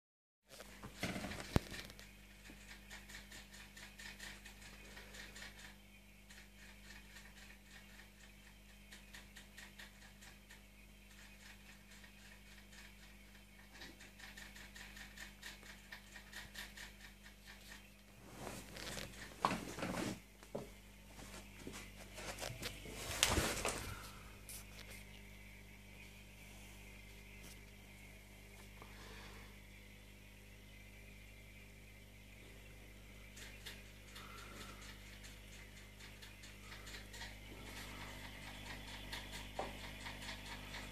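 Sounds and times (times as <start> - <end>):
aquarium pump hum: 0.5 - 40.9.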